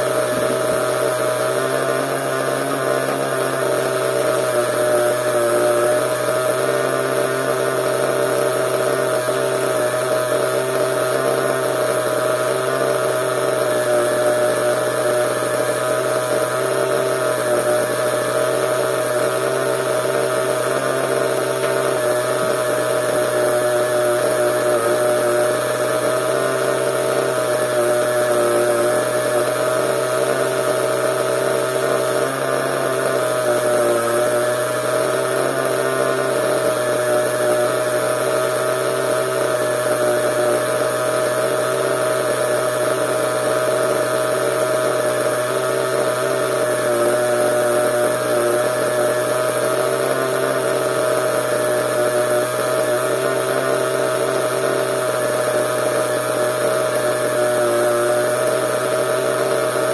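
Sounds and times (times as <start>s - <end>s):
small nitro engine running: 0.0s - 59.9s.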